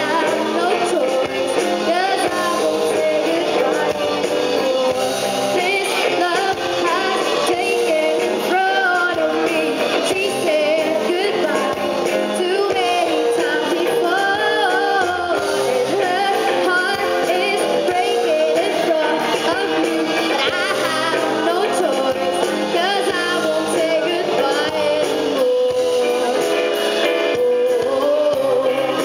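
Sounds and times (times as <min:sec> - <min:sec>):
live rock band playing: 0:00.0 - 0:29.0
person singing: 0:00.0 - 0:29.0.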